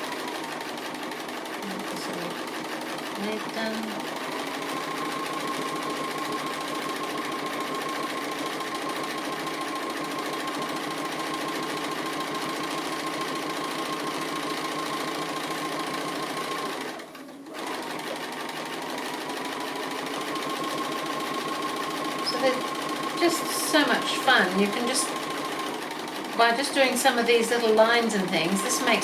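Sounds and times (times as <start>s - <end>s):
sewing machine stitching: 0.0s - 29.0s.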